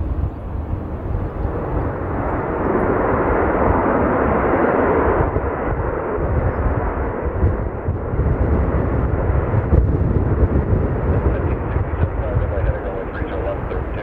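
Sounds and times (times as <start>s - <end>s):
jet aircraft passing: 0.0s - 14.0s.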